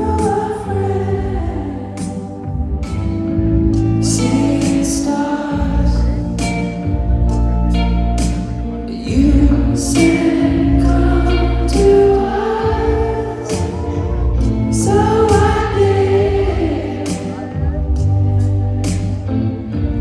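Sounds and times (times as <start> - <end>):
person singing: 0.0 - 19.3
live band music: 0.0 - 20.0.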